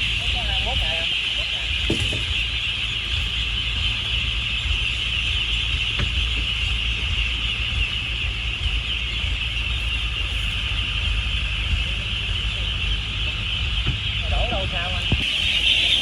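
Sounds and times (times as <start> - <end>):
boat engine rumbling: 0.0 - 16.0
flock of ducks calling: 0.0 - 16.0.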